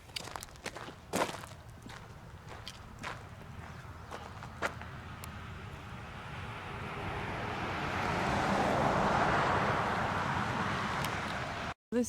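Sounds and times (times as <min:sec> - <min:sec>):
motor vehicle passing: 0:00.2 - 0:11.8.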